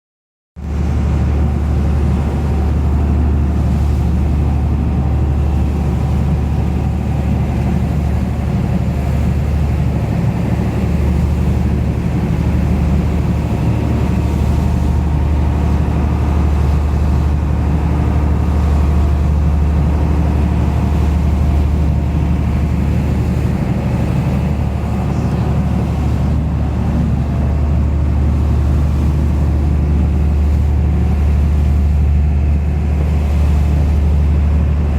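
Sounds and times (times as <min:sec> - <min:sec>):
boat engine droning: 0:00.6 - 0:34.9.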